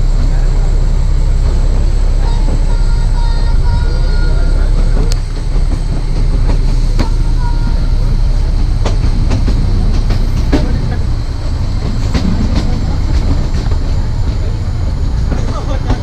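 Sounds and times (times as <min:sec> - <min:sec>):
train coach rumbling: 0:00.0 - 0:16.0
wheels clicking over rail joints: 0:01.4 - 0:16.0.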